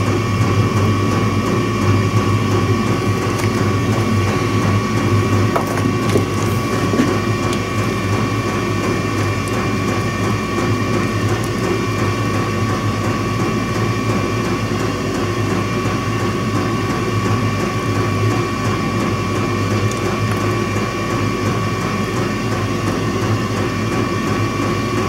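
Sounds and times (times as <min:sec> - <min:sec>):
machine whirring and humming: 0:00.0 - 0:25.0.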